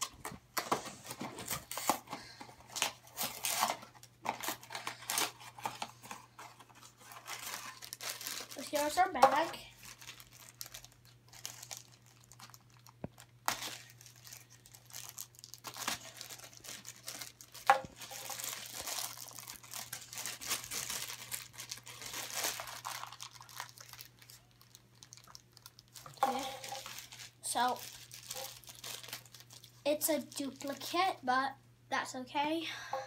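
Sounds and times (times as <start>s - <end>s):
plastic bag crackling as torn open: 2.7s - 5.9s, 6.8s - 30.9s.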